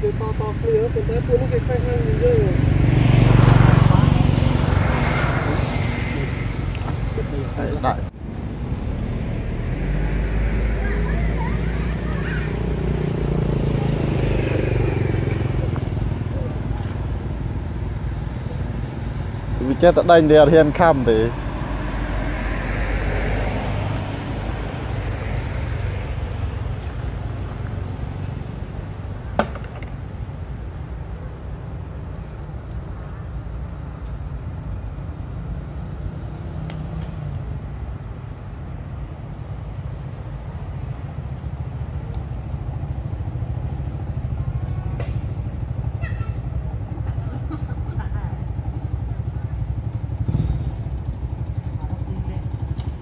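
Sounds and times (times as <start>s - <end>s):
road vehicle passing: 0.0s - 53.0s.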